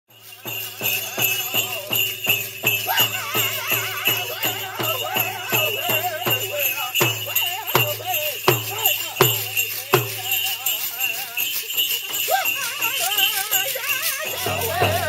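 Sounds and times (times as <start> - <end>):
bells jingling: 0.1 - 15.0
drum beating steadily: 0.1 - 15.0
person singing: 0.2 - 15.0.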